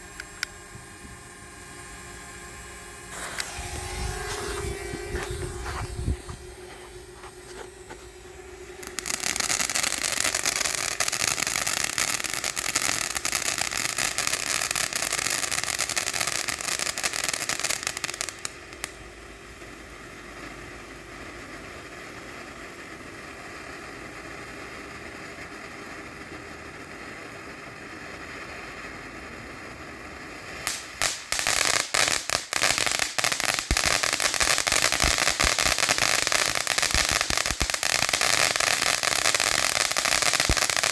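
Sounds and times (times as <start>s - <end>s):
firework crackling: 0.0s - 40.9s
steady hum: 0.0s - 40.9s.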